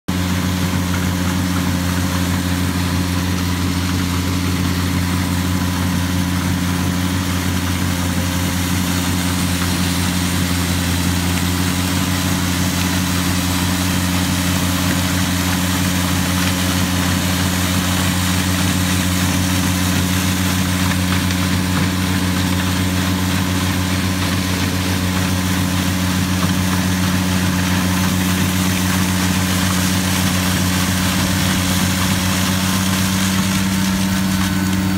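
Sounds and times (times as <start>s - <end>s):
tractor engine drone: 0.1s - 34.9s
snow blower hiss: 0.2s - 34.9s.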